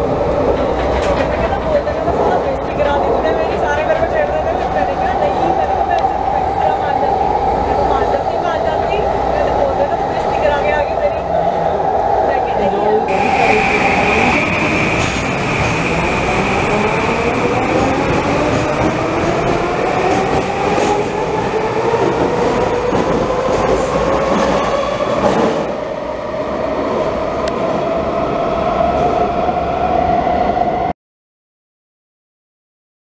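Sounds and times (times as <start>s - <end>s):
rail running noise: 0.0s - 30.9s.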